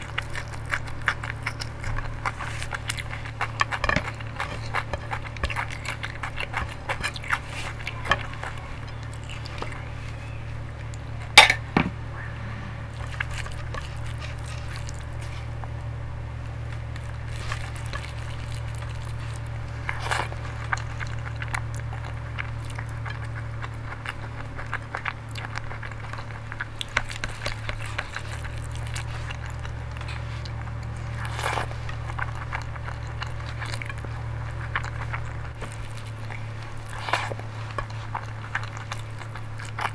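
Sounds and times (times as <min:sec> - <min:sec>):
fingers squishing rice: 0:00.0 - 0:11.8, 0:12.9 - 0:39.9
low hum: 0:00.0 - 0:39.9.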